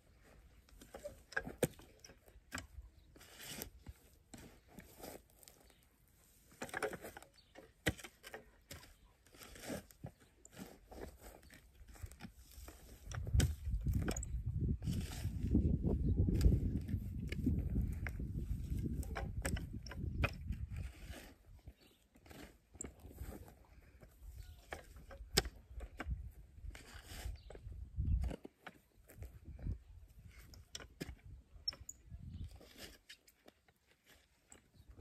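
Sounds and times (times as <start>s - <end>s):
spade digging dry soil: 0.0s - 35.0s.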